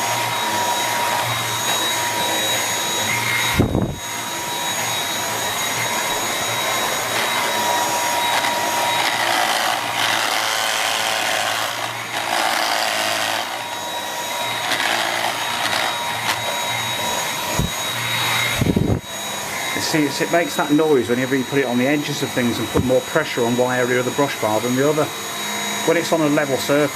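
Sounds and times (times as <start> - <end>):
vacuum cleaner motor whine: 0.0 - 26.9.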